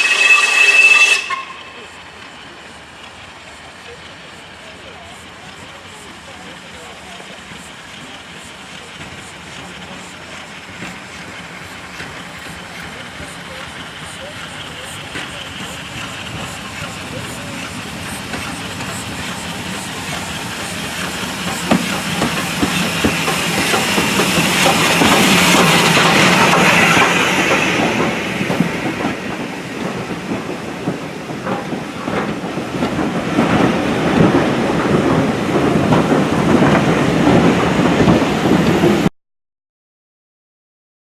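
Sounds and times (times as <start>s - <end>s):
steam hiss: 0.0s - 35.0s
steam train passing: 0.0s - 39.1s
wheels clicking over rail joints: 2.2s - 39.1s.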